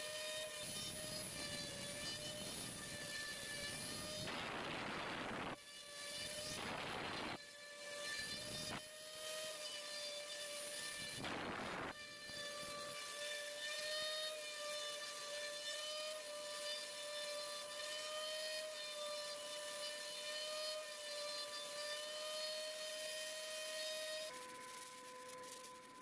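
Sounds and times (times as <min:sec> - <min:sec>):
router spindle high whine: 0:00.0 - 0:26.0.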